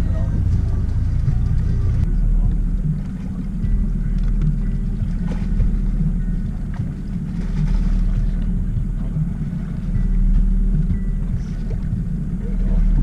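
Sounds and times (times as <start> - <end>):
outboard motor rumbling: 0.0 - 13.0.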